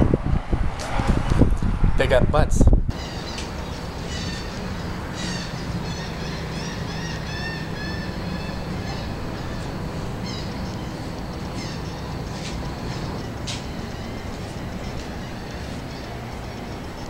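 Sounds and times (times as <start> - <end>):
steady low rumble: 0.0 - 17.0
birds chirping: 2.9 - 17.0.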